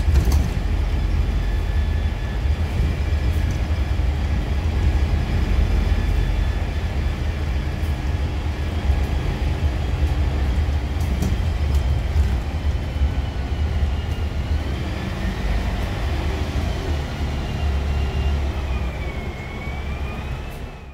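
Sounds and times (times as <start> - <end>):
bus engine and road rumble: 0.0 - 20.9.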